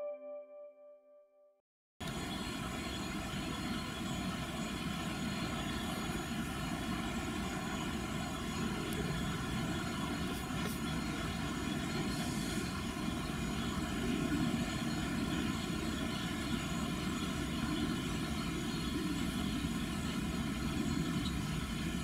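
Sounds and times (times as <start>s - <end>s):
diesel locomotive engine rumble: 2.0s - 22.0s
faint hum: 2.0s - 22.0s.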